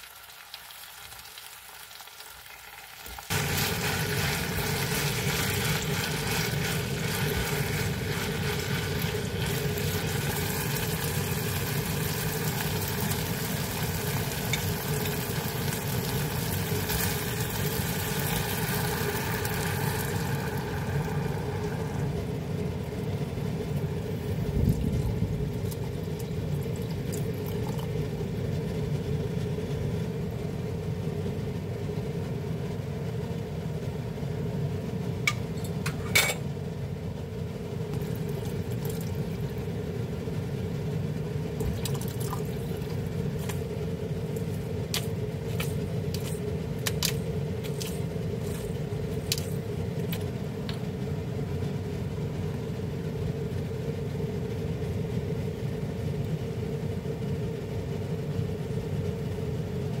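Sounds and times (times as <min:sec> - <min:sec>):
steady low hum: 0:03.3 - 1:00.0.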